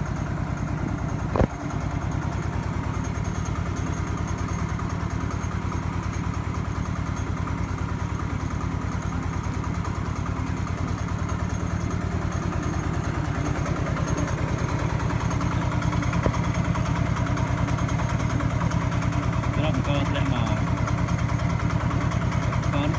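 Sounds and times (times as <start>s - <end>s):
diesel engine chugging: 0.0s - 22.9s
rice mill hulling: 0.0s - 22.9s.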